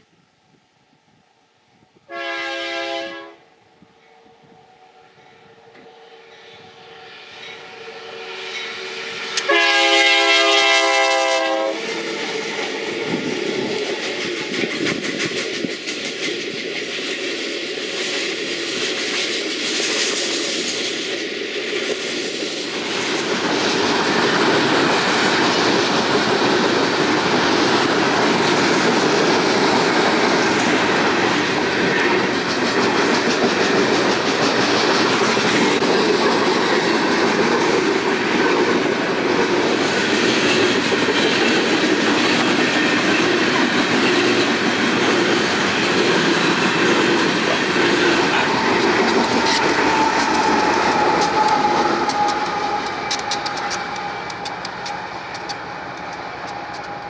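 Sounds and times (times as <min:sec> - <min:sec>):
diesel locomotive whine: 0:00.0 - 0:57.0
train wheels rumbling on rail: 0:05.2 - 0:57.0
clickety-clack over rail joints: 0:10.6 - 0:57.0.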